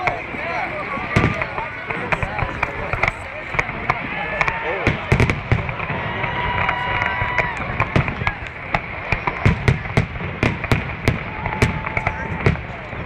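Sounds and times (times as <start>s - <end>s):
fireworks bangs and crackles: 0.0s - 13.0s
high whistling fireworks: 0.0s - 13.0s.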